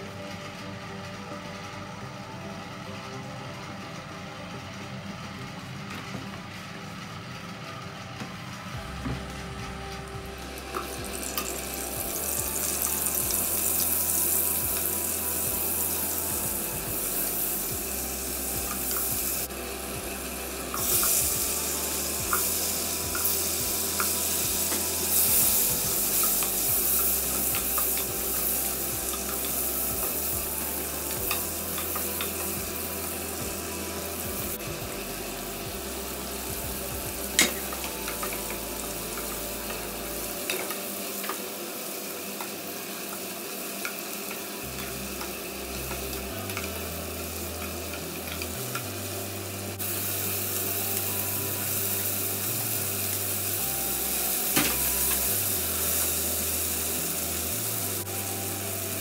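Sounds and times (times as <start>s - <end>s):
oil sizzling in a pot: 8.4s - 59.0s.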